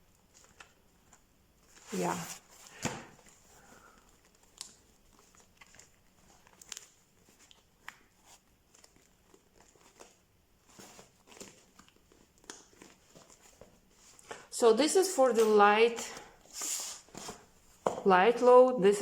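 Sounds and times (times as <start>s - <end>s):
notebooks rustling: 0.1s - 19.0s.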